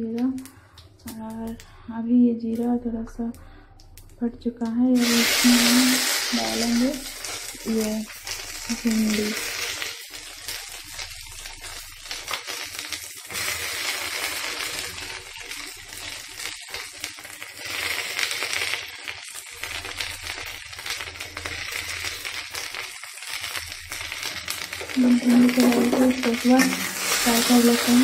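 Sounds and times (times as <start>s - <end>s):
okra sizzling in hot oil: 5.0s - 28.0s.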